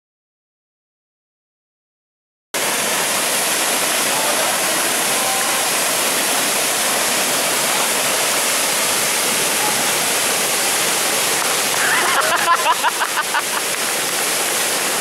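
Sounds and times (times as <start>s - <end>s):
waterfall rushing: 2.6s - 15.0s.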